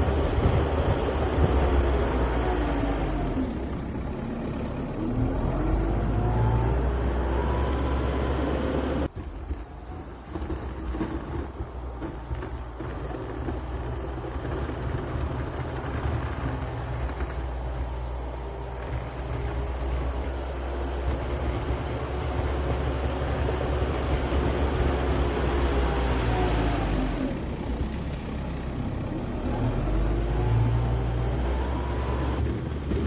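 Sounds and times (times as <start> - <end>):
snow-clearing vehicle engine: 0.0 - 33.0.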